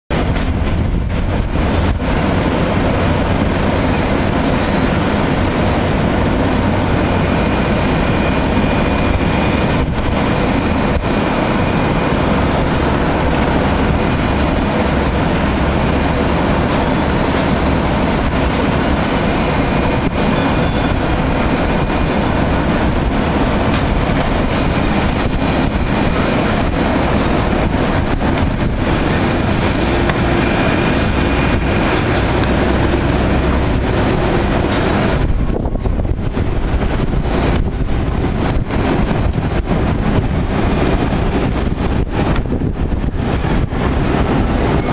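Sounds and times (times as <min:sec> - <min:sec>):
jet engines rushing: 0:00.1 - 0:44.9.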